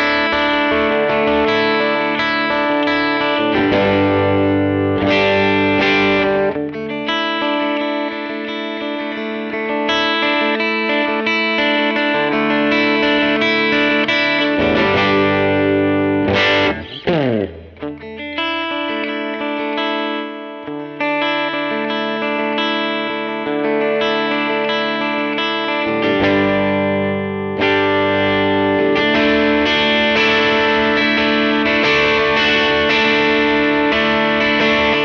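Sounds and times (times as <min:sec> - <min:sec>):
electric guitar chords: 0:00.0 - 0:35.0.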